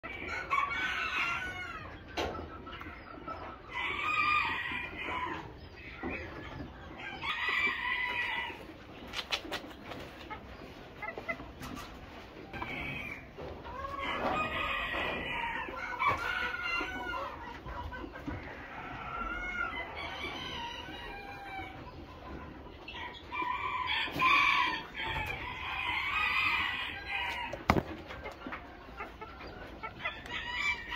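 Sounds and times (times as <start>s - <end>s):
chickens crowing and clucking: 0.0s - 30.9s.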